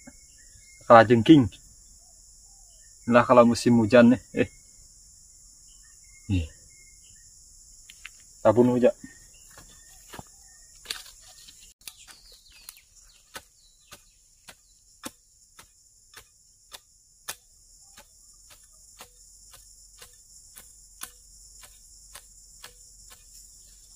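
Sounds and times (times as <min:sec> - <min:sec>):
insects chirring: 0:00.0 - 0:23.9.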